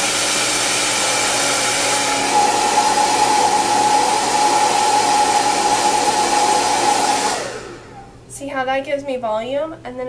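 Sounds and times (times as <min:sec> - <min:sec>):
hair dryer blowing: 0:00.0 - 0:08.3.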